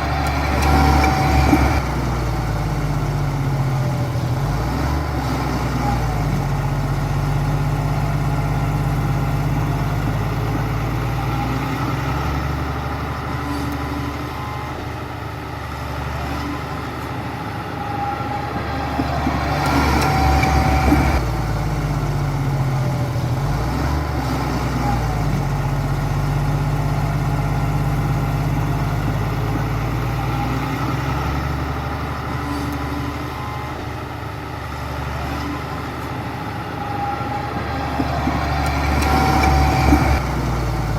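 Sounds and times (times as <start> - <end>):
heavy diesel engine working: 0.0 - 40.9.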